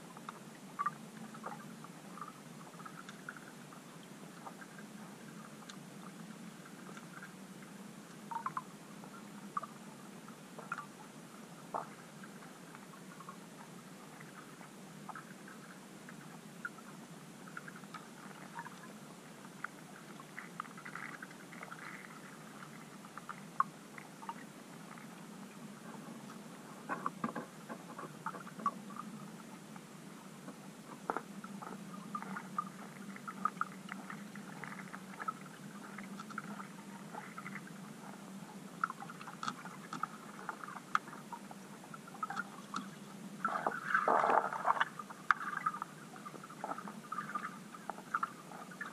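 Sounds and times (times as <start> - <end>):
faint underwater crackling: 0.0 - 48.9
low steady hum: 0.0 - 48.9
small clicks and ticks: 0.1 - 9.8, 10.6 - 11.0, 11.7 - 25.2, 30.5 - 48.9.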